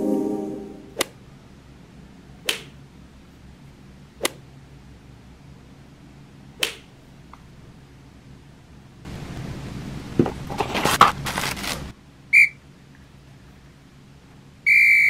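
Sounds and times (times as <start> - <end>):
faint room noise: 0.0 - 14.7.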